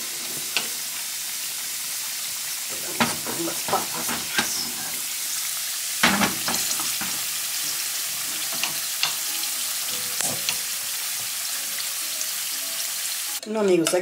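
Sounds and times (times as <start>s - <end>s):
potatoes frying in hot oil: 0.0s - 14.0s.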